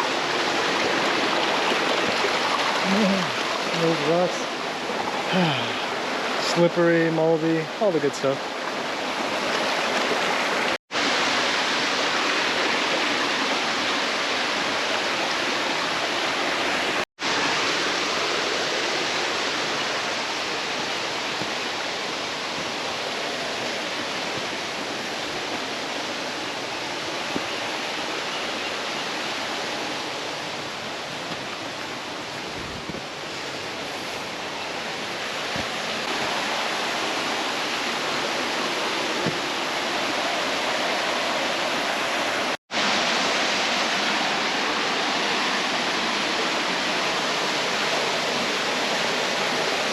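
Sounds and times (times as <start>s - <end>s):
stream and waterfall rushing: 0.0s - 49.9s.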